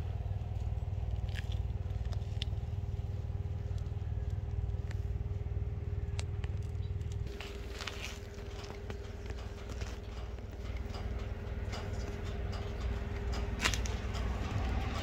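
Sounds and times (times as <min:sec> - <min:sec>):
low engine rumble: 0:00.0 - 0:15.0
thin steady hum: 0:00.0 - 0:15.0.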